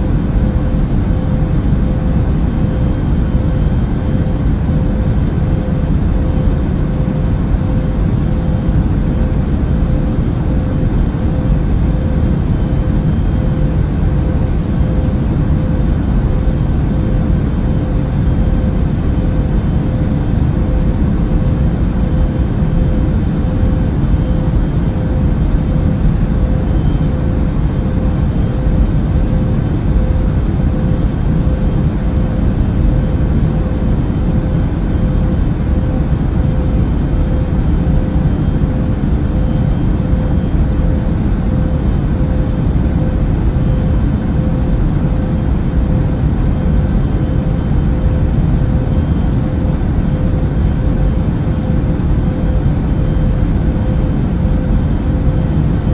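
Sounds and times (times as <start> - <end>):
deep rumble of engines and airflow: 0.0 - 55.9
faint steady hum: 0.0 - 55.9.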